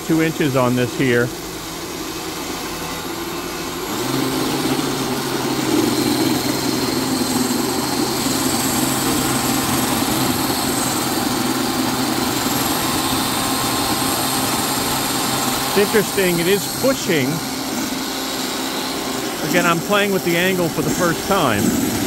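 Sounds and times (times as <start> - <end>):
electric snow shovel humming: 0.0 - 22.0.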